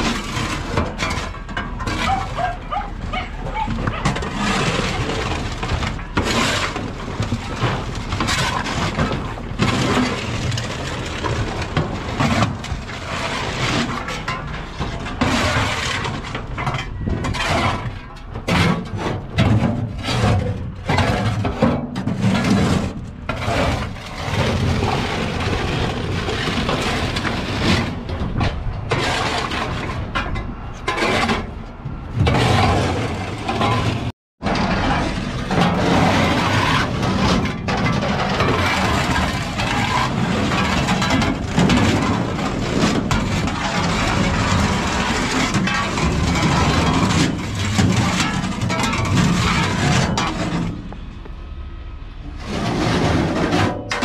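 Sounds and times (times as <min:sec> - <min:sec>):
shovels scraping on steel truck bed: 0:00.0 - 0:51.4, 0:52.1 - 0:54.0.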